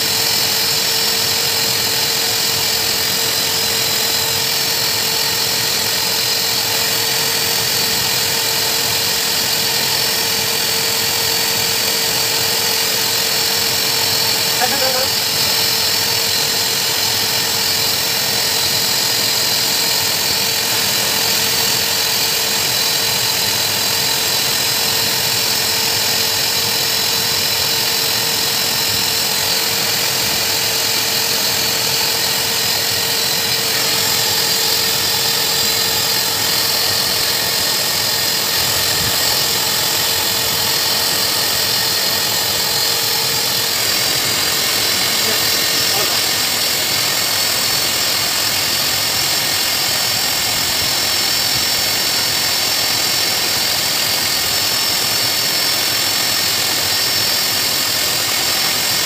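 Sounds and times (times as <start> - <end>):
dog blow dryer running: 0.0 - 59.0.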